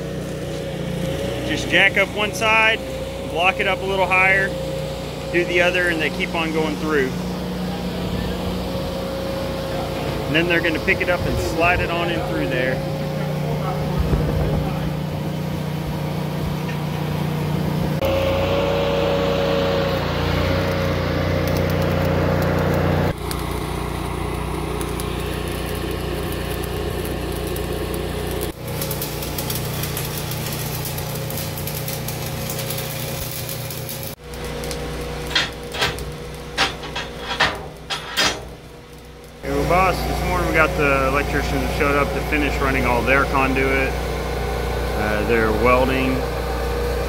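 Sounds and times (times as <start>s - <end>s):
small engine droning: 0.0s - 37.2s, 38.5s - 47.0s.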